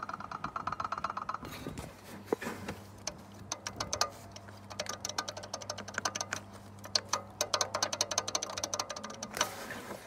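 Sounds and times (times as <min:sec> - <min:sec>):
pulley bearings clicking rattle: 0:00.0 - 0:01.8, 0:02.9 - 0:10.0.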